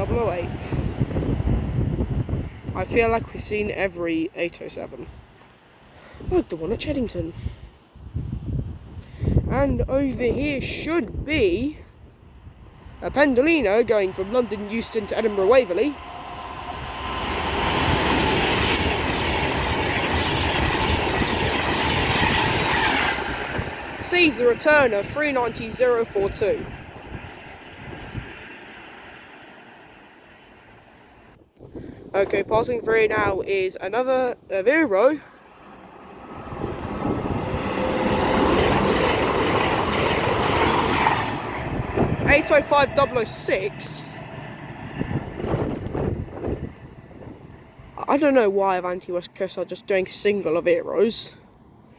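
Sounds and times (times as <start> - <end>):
electric train passing: 0.0 - 5.9, 10.2 - 31.5, 32.1 - 51.9.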